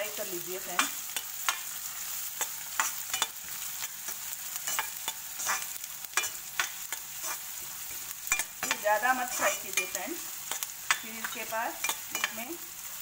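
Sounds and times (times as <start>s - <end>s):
onions sizzling in oil: 0.0s - 13.0s
spatula scraping a pan: 0.7s - 12.6s.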